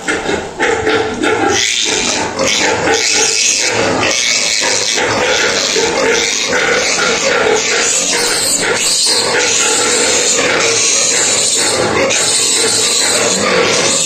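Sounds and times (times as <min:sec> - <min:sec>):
pigs squealing: 0:00.0 - 0:14.0.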